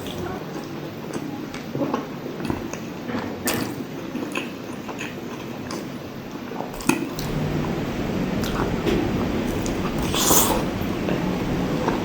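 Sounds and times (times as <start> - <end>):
wet squishy chewing: 0.0 - 7.4, 8.4 - 11.2.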